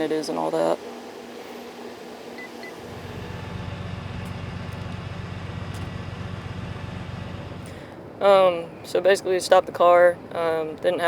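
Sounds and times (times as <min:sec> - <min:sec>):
vehicle engine rumbling: 0:00.0 - 0:10.8.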